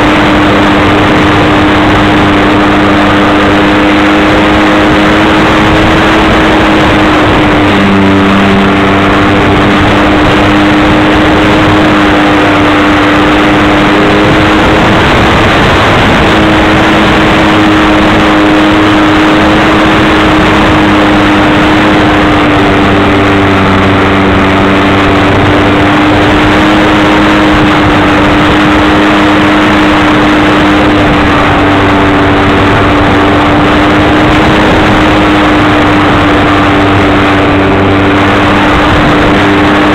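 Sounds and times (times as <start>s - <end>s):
model plane motor drone: 0.0s - 39.9s
rush of air: 0.0s - 39.9s.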